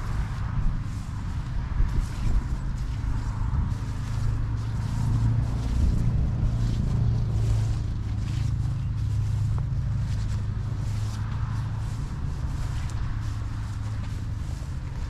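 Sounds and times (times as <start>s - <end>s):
footsteps walking: 0.0s - 15.0s
steady low hum: 0.0s - 15.0s.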